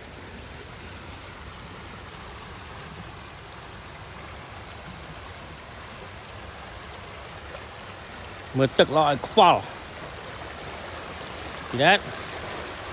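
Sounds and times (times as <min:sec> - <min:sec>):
river rushing: 0:00.0 - 0:12.9.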